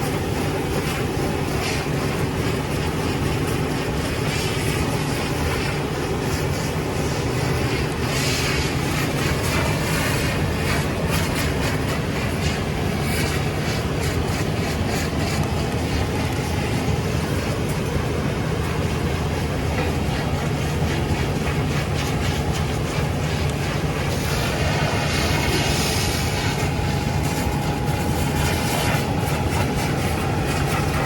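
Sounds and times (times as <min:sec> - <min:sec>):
continuous hiss: 0:00.0 - 0:31.0
fire engine running: 0:00.0 - 0:31.0.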